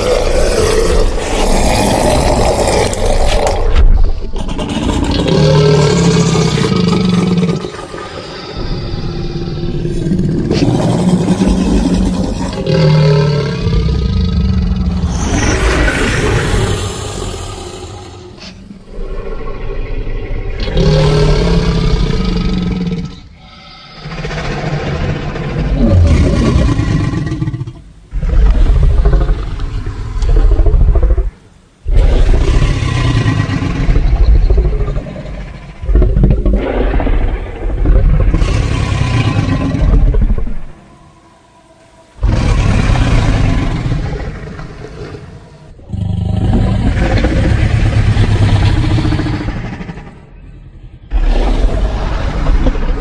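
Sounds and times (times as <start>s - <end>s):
deep monster growls: 0.0s - 53.0s.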